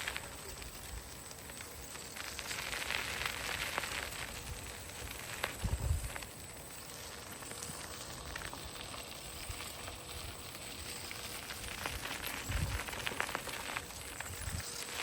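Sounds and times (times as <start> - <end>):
light crackling and rustling: 0.0 - 15.0.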